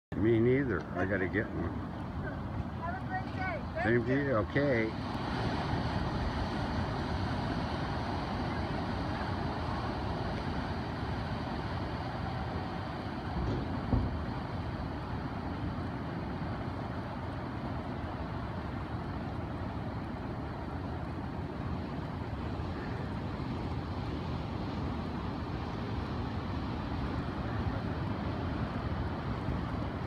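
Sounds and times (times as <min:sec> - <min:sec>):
wind: 0:00.0 - 0:30.0
ocean surf breaking: 0:00.1 - 0:30.0.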